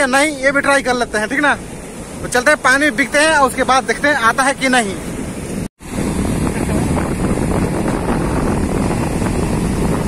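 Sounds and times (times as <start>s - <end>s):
sea surf breaking on sand: 0.0s - 10.0s
wind buffeting microphone: 0.0s - 10.0s.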